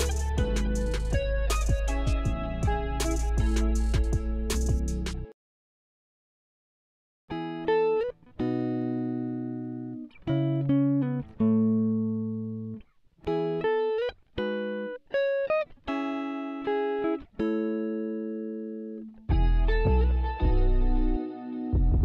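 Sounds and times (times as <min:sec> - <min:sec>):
plucked guitar-like melody: 0:00.0 - 0:05.3, 0:07.3 - 0:22.0.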